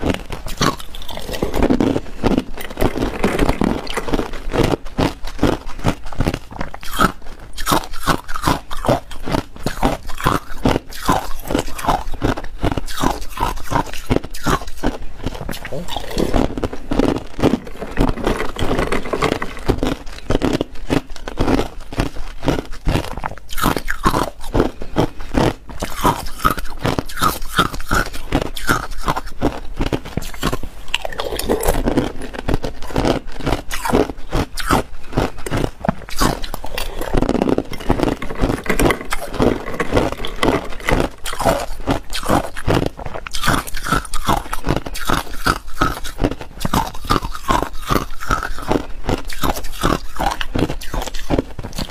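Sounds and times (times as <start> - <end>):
ice cubes crunching: 0.0 - 51.9.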